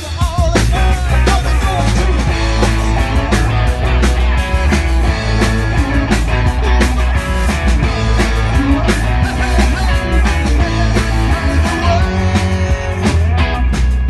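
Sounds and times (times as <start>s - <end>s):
bass guitar: 0.0s - 14.0s
drum kit steady beat: 0.0s - 14.0s
electric guitar: 0.0s - 14.0s.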